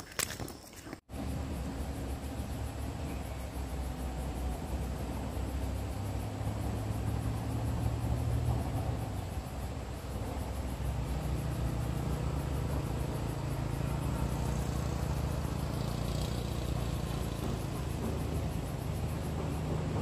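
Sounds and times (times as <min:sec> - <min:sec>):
distant motorbike engine: 0:01.1 - 0:20.0.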